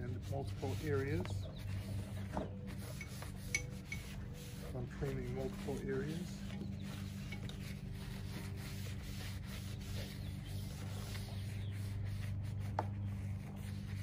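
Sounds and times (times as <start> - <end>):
rag rubbing on plastic: 0.0 - 14.0
steady low hum: 0.0 - 14.0.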